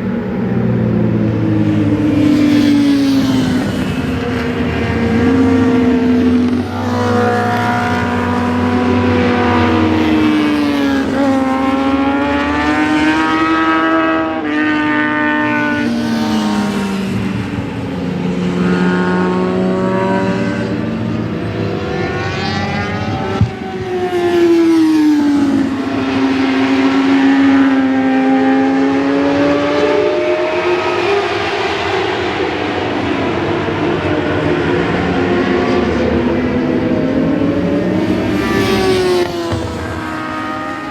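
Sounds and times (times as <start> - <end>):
racing motorcycles passing: 0.0 - 40.9.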